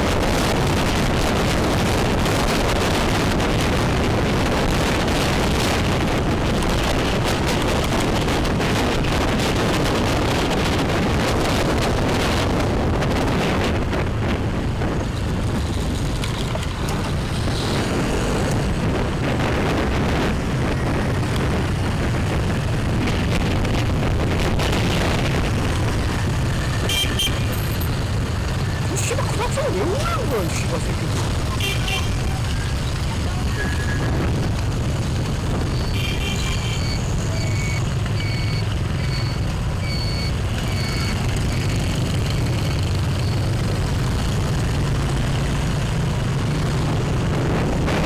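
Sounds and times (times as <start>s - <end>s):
road noise: 0.0s - 48.0s
wind rush on microphone: 0.0s - 48.0s.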